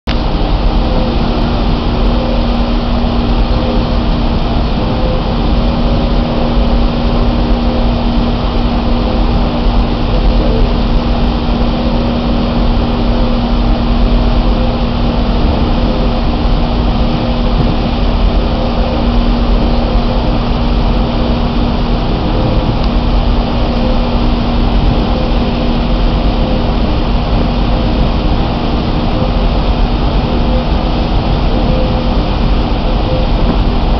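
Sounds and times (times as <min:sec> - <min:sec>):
ferry engines droning: 0:00.1 - 0:33.9.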